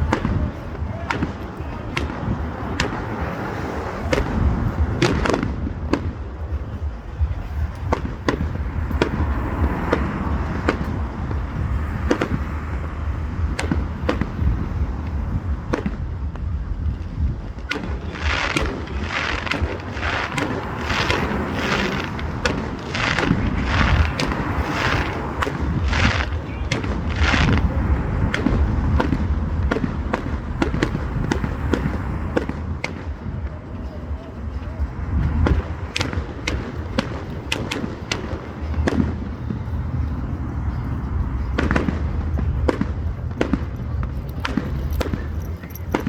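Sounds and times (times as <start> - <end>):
crackling hissing fireworks: 0.0 - 46.0
fireworks bangs: 0.0 - 46.0
low rumble: 0.0 - 46.0.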